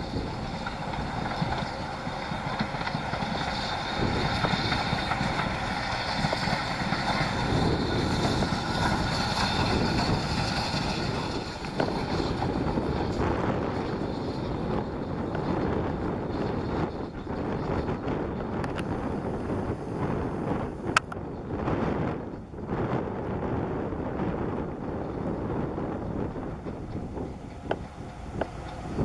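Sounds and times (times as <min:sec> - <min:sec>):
steam locomotive exhaust beats: 0:00.0 - 0:29.0
wind buffeting the microphone: 0:00.0 - 0:29.0.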